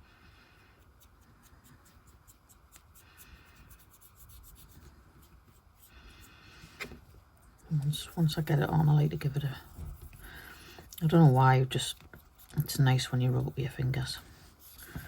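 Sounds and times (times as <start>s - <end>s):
soft scratching and rubbing: 0.5s - 15.0s.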